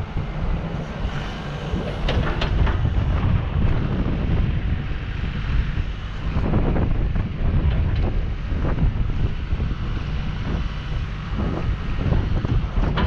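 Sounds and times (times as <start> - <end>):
excavator diesel engine running: 0.0 - 13.0
wind buffeting microphone: 0.0 - 13.0.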